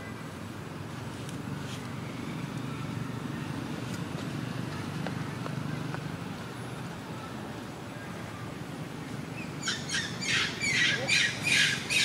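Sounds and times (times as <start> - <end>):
quiet outdoor background noise: 0.0 - 12.0.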